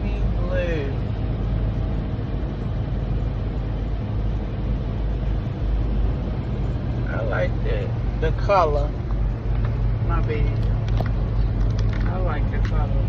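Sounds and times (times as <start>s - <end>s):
road noise hiss: 0.0s - 13.0s
truck engine drone: 0.0s - 13.0s.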